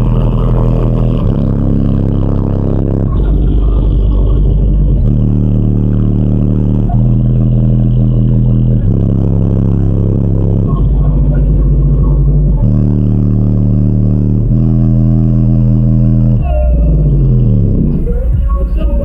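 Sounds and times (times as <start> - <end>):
loud subwoofer bass notes: 0.0 - 19.0.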